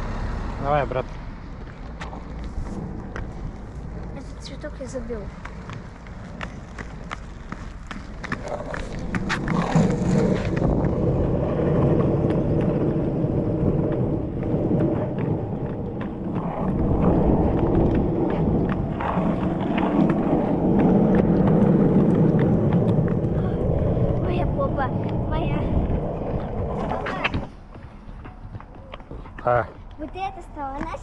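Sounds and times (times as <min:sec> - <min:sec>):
roller-skate wheels on pavement: 0:00.0 - 0:31.0.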